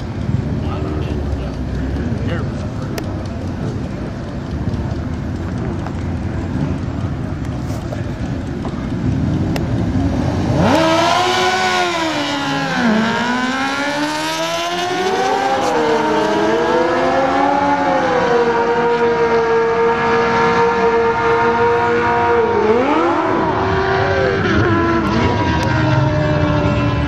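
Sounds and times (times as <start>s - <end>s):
engine at full throttle: 0.0s - 27.0s.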